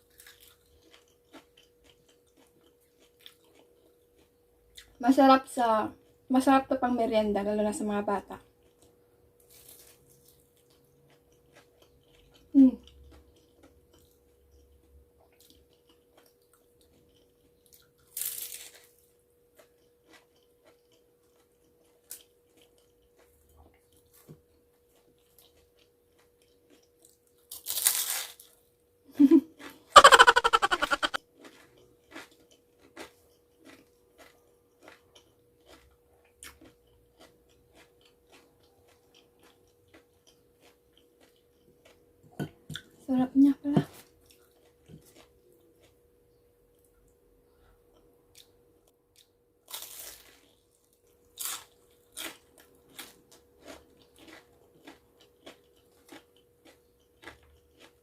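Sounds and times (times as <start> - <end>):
crunchy bites of fried rolls: 0.0 - 5.0, 8.4 - 28.7, 29.6 - 43.0, 43.8 - 46.1, 47.8 - 58.0
quiet chewing with mouth clicks: 0.0 - 5.0, 8.4 - 18.2, 18.9 - 27.5, 31.1 - 43.0, 43.8 - 49.3, 50.3 - 58.0.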